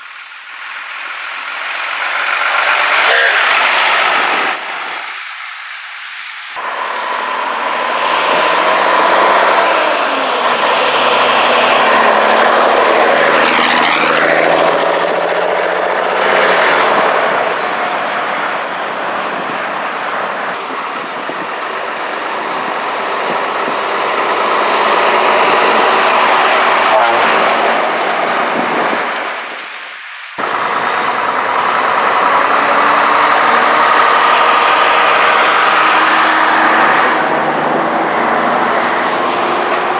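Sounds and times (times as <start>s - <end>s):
trucks driving past: 0.0s - 39.9s.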